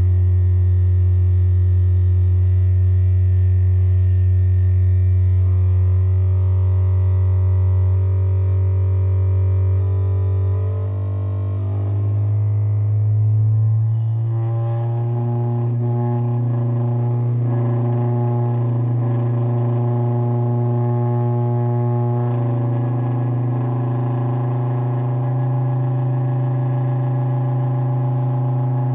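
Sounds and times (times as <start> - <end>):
subwoofer playing low tone: 0.0 - 28.9.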